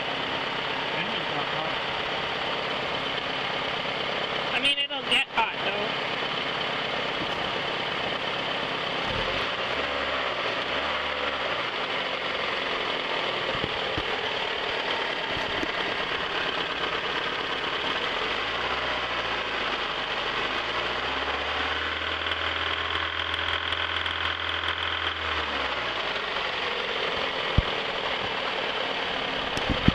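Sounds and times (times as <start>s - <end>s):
car engine idling roughly: 0.0s - 29.9s.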